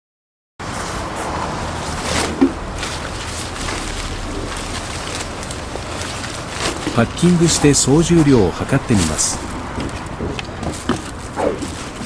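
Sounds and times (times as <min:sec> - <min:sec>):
camping gear rustling: 0:00.6 - 0:12.0
low outdoor rumble: 0:00.6 - 0:12.0
plastic bags rustling: 0:00.6 - 0:12.0.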